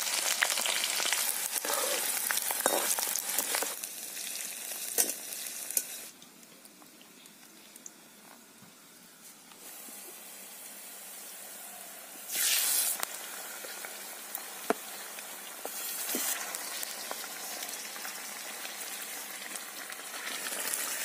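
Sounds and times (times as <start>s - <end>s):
chicken sizzling in hot oil: 0.0s - 6.1s, 9.6s - 21.0s.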